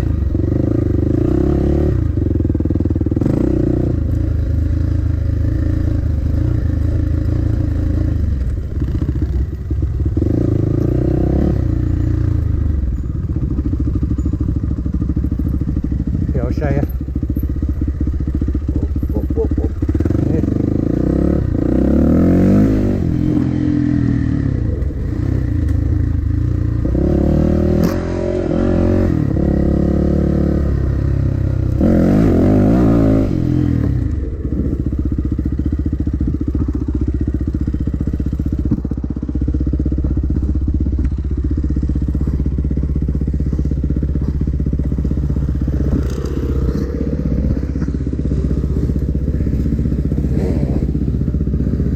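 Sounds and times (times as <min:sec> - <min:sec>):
dirt bike engine revving: 0:00.0 - 0:09.4, 0:10.1 - 0:51.9.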